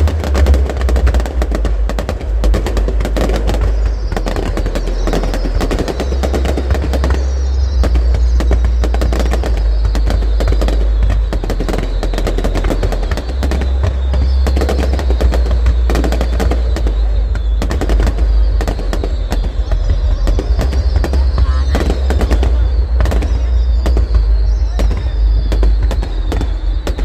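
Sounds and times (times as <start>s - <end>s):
deep booming rumble: 0.0s - 27.0s
fireworks crackling: 0.0s - 27.0s.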